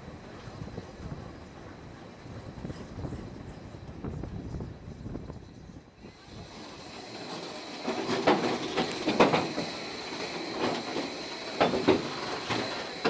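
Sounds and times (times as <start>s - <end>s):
railway carriages rolling: 0.0s - 13.0s.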